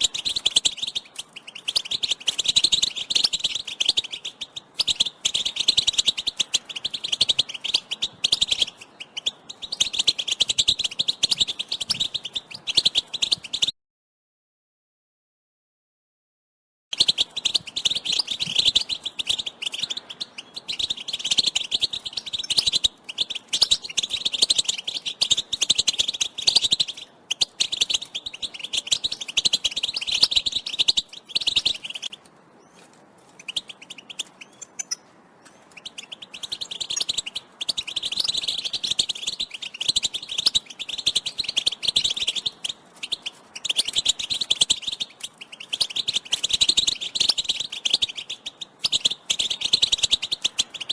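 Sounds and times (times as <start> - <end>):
goldfinch twittering: 0.0 - 13.7, 17.0 - 32.8, 33.4 - 50.9.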